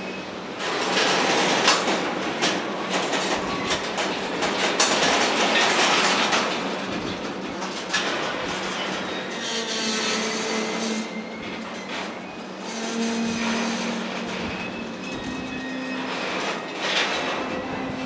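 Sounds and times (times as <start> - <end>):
freight train rumbling past: 0.0 - 18.0
wheels clicking over rail joints: 0.5 - 18.0.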